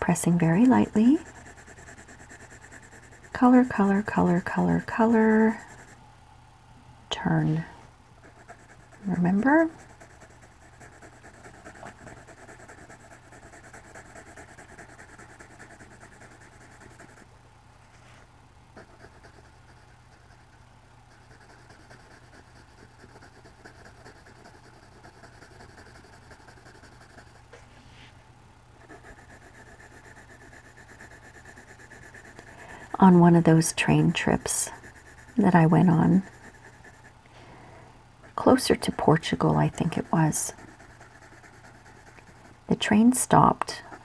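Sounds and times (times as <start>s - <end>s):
coloured pencil scratching on paper: 0.0s - 6.0s, 7.3s - 17.3s, 18.8s - 27.4s, 28.8s - 37.2s, 38.2s - 44.0s.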